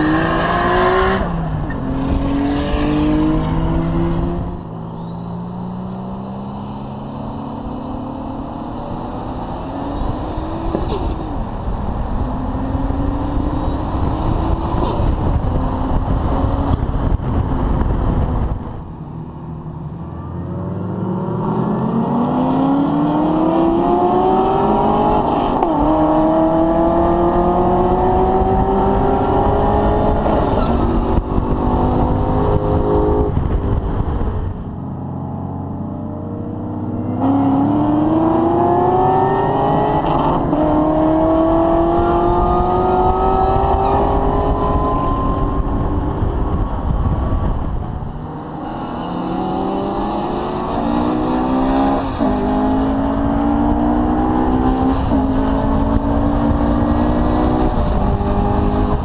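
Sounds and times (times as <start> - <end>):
car engine accelerating hard: 0.0 - 18.9, 20.4 - 59.0.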